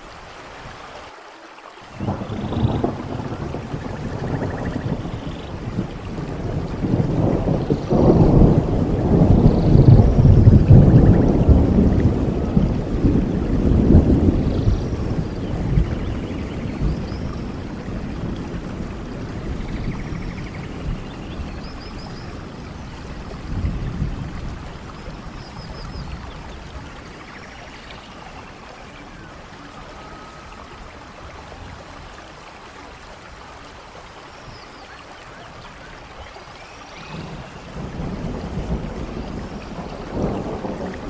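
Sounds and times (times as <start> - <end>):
rain falling: 0.0 - 41.0
thunder rumbling: 2.0 - 32.2, 36.9 - 41.0.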